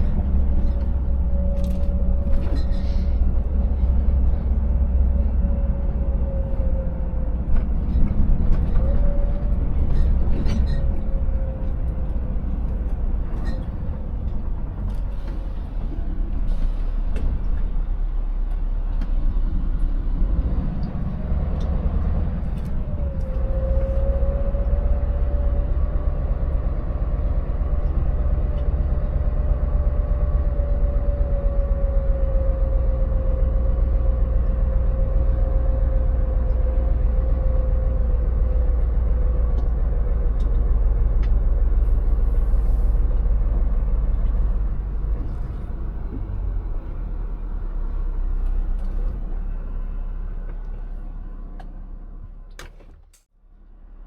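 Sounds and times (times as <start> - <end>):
engine whine: 0.0 - 53.2
truck engine rumbling: 0.0 - 54.0.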